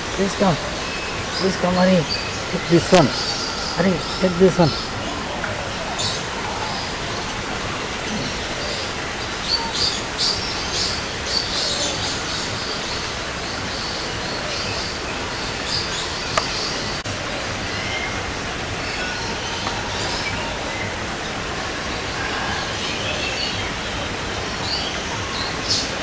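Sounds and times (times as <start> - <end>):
small birds chirping: 0.0 - 26.0
steady background hiss: 0.0 - 26.0.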